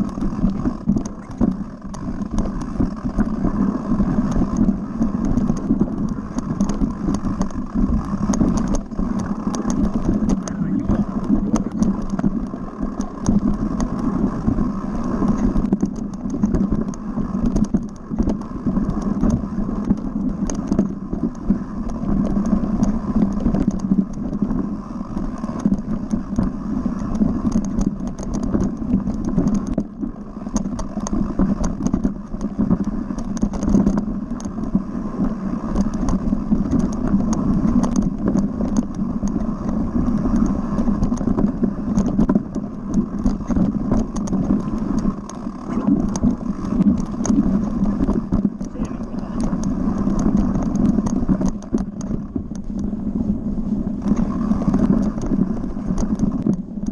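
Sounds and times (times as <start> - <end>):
bike clicking and rattling: 0.0 - 56.9
wind and tyre noise: 0.0 - 56.9.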